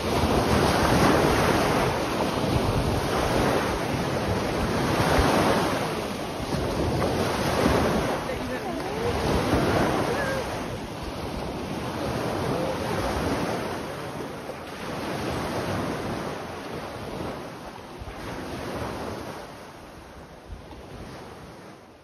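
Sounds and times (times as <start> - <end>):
wind noise on microphone: 0.0 - 21.8
waves breaking on a beach: 0.0 - 22.0.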